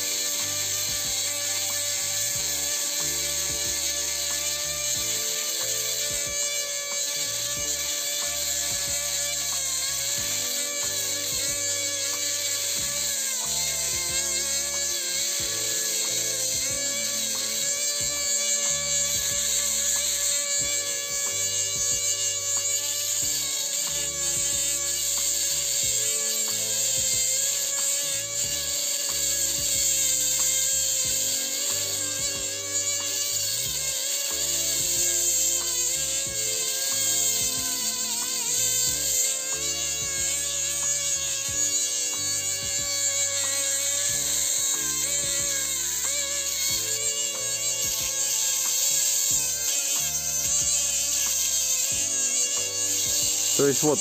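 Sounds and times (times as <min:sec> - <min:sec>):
background music: 0:00.0 - 0:54.0
mini grinder cutting stone: 0:00.0 - 0:54.0.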